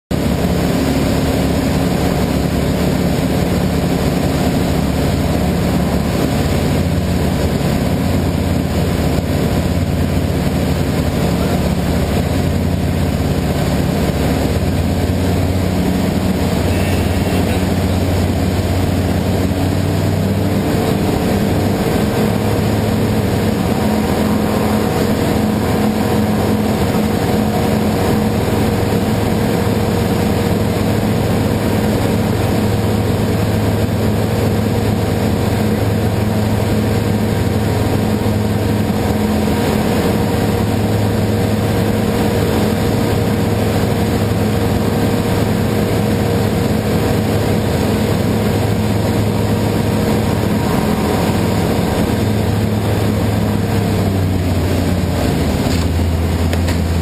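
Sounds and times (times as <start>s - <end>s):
aircraft engine and propeller droning: 0.1s - 57.0s.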